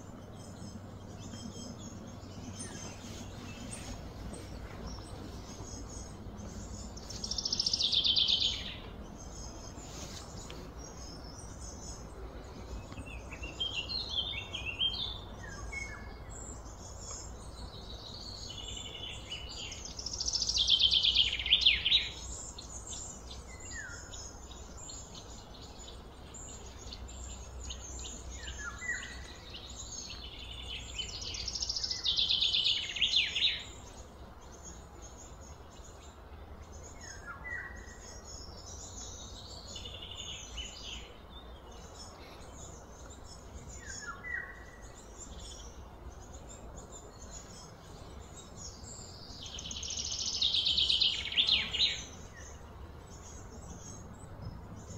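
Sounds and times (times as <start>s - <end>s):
bird song phrase: 0.0s - 54.9s
low background noise: 0.0s - 54.9s.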